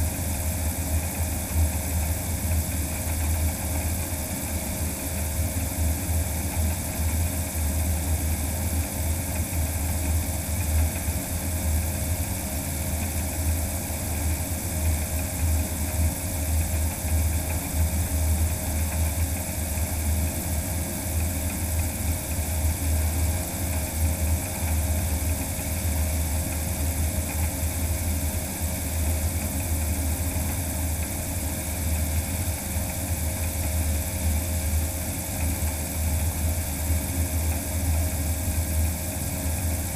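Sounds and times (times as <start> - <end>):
electric propeller drone: 0.0 - 39.9.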